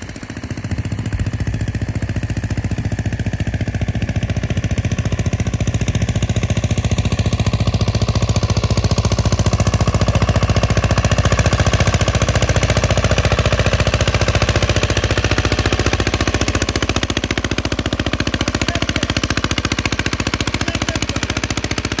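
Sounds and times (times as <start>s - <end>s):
engine knocking steadily: 0.0s - 22.0s.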